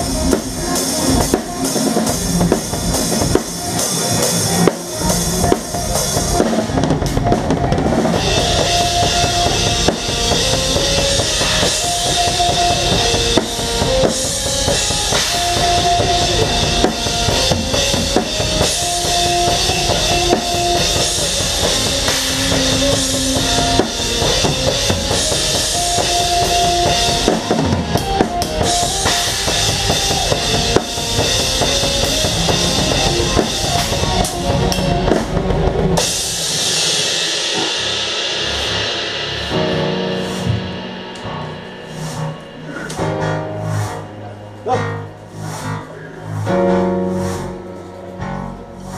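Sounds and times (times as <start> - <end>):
melodic lead line: 0.0 - 45.4
band playing: 0.0 - 48.9
drum kit: 0.0 - 48.9.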